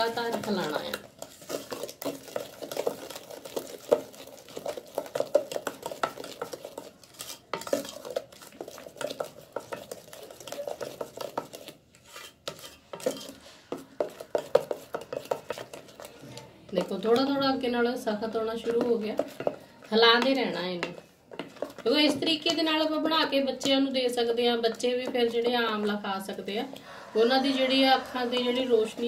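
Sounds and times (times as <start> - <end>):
wooden spatula scraping metal pot: 0.0 - 29.0.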